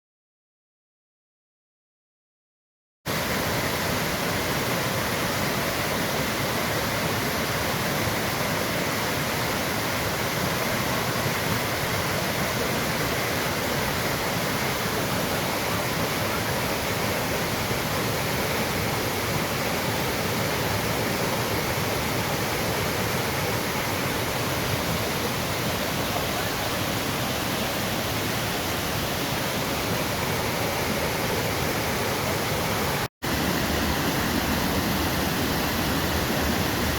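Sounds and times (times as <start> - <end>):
waterfall rushing: 3.1 - 36.9.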